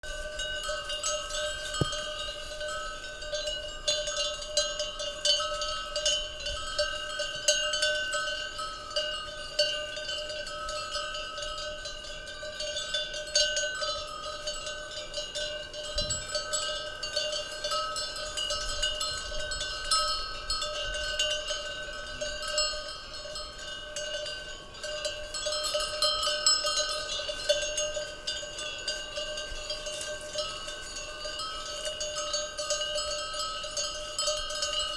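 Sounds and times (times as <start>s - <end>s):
cowbells clanking: 0.0s - 34.9s.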